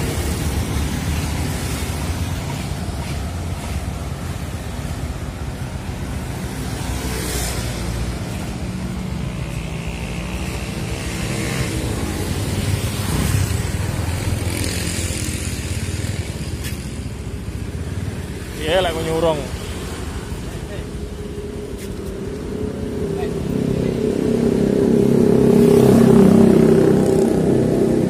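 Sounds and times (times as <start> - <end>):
road noise: 0.0 - 28.0.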